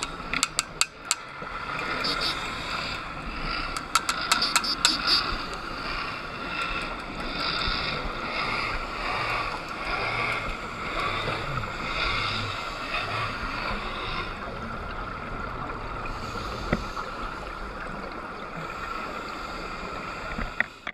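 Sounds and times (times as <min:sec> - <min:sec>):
underwater scuba bubbles: 0:00.0 - 0:20.9.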